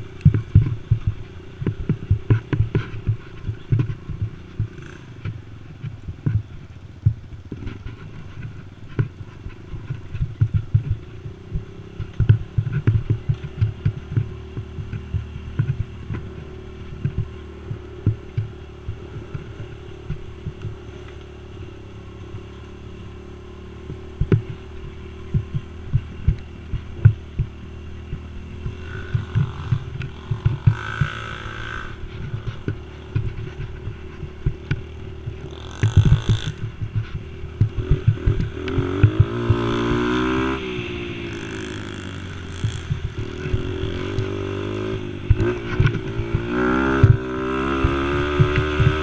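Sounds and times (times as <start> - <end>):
thumps and rattles over bumps: 0.0 - 22.5, 23.2 - 40.6, 41.2 - 49.0
small engine running: 9.5 - 49.0.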